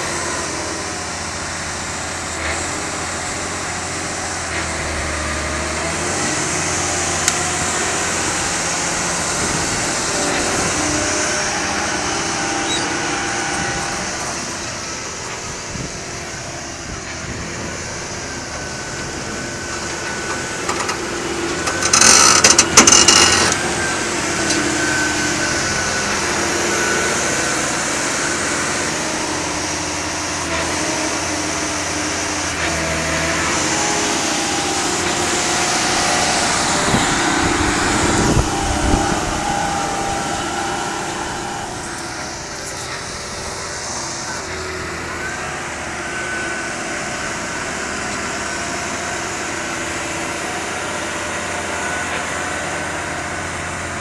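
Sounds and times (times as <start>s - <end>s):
tractor diesel engine under load: 0.0s - 54.0s
loud rough noise bursts: 0.8s - 45.0s.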